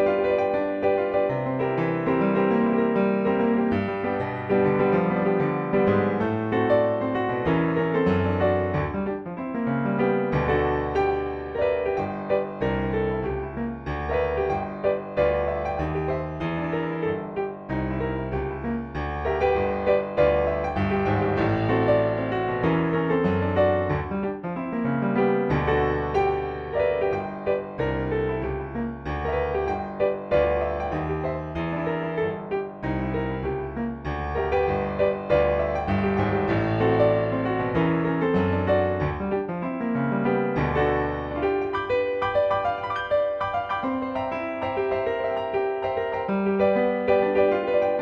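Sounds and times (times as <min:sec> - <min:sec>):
blues piano playing: 0:00.0 - 0:48.0.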